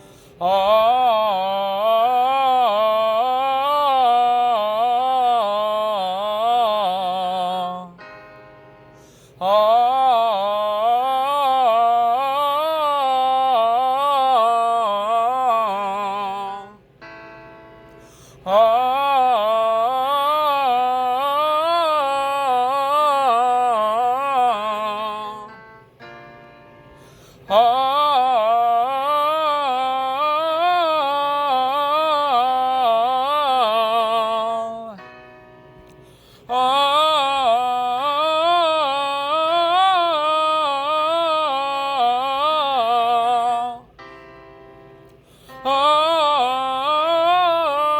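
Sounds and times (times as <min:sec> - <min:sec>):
person singing vocal exercise: 0:00.0 - 0:08.1, 0:09.0 - 0:17.0, 0:18.0 - 0:25.7, 0:27.0 - 0:35.1, 0:35.8 - 0:44.0, 0:45.2 - 0:47.9.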